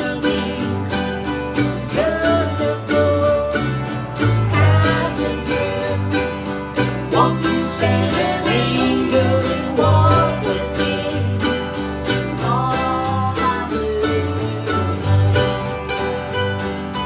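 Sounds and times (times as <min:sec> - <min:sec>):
people singing: 0:00.0 - 0:15.9
acoustic guitars strumming: 0:00.0 - 0:17.0
bass notes: 0:00.0 - 0:17.0
mandolin: 0:00.0 - 0:17.0.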